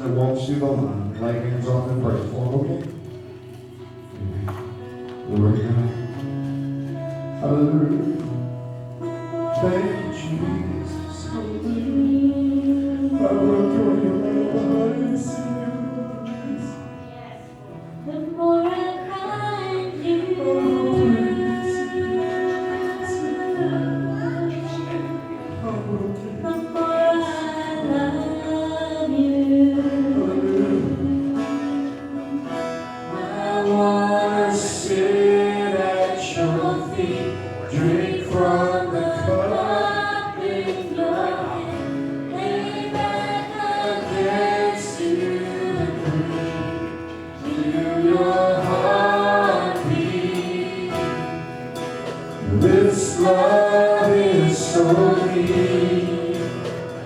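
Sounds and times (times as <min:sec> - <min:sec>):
congregation singing gospel: 0:00.0 - 0:57.0
guitar: 0:00.0 - 0:57.0.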